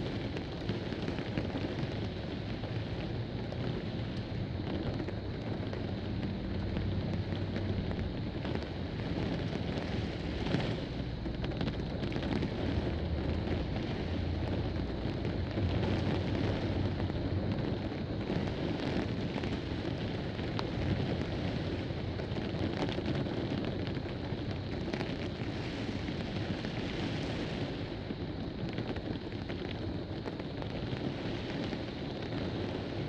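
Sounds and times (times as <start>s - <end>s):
heavy rain downpour hiss: 0.0s - 33.0s
wind buffeting microphone: 4.5s - 33.0s.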